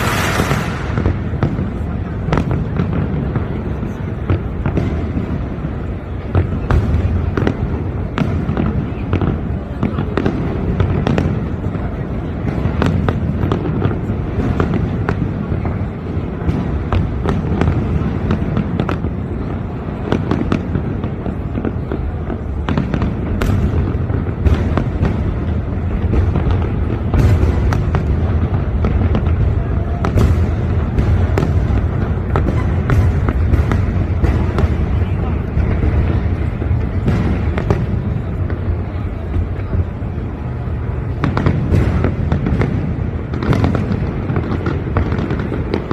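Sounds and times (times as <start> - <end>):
fireworks cracks and pops: 0.0 - 45.9
sharp loud firework bangs: 0.0 - 45.9.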